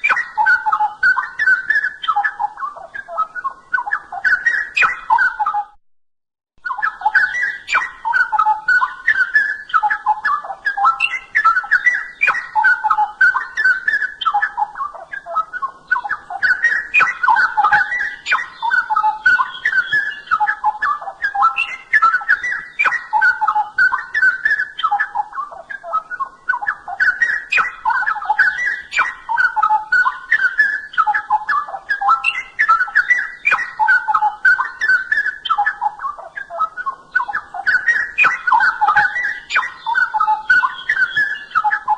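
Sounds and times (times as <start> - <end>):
bird warbling: 0.0 - 5.8, 6.6 - 41.9.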